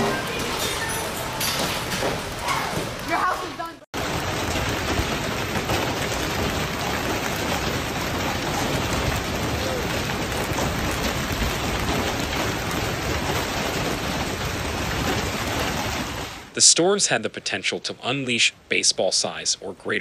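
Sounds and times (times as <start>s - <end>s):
heavy rain pelting down: 0.0s - 20.0s.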